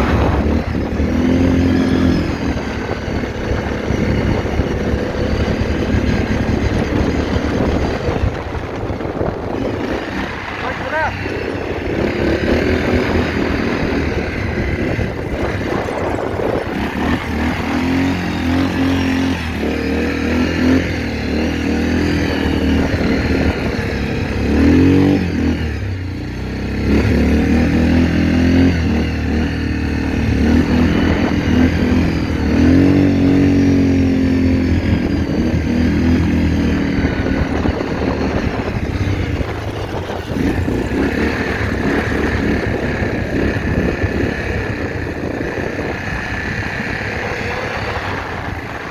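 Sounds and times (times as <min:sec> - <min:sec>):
quad engine revving: 0:00.0 - 0:48.9.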